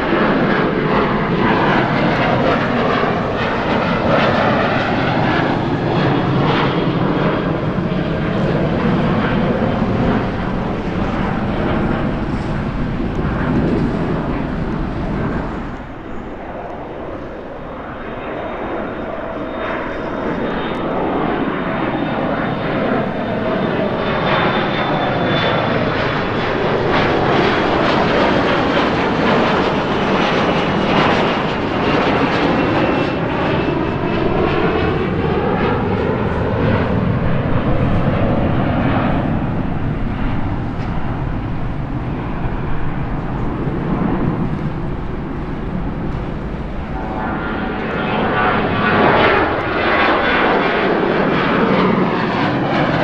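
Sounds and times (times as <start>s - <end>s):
jet engine roar with whine: 0.0s - 53.0s.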